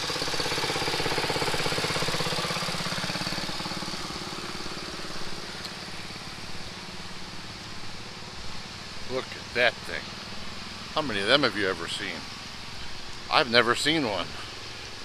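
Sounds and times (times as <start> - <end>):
engine pulsing: 0.0 - 15.0.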